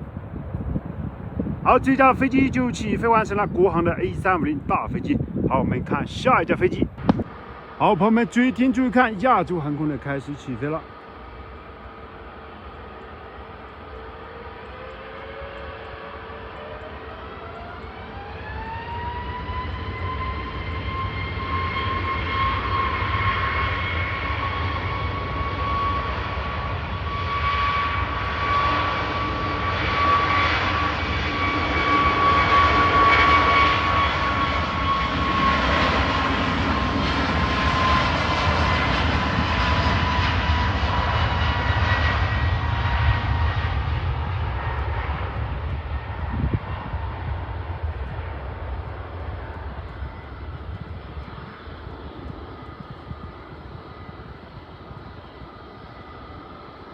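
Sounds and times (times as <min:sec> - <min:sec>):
jet engines spooling up: 0:00.1 - 0:56.9.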